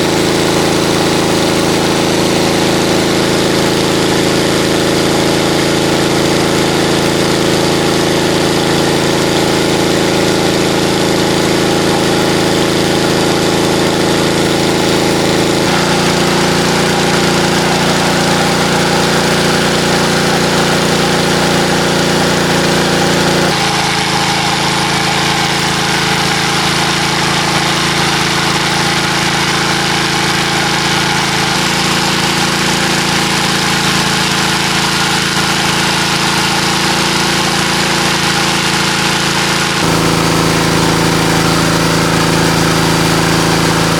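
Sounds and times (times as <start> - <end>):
small engine idling: 0.0 - 43.9.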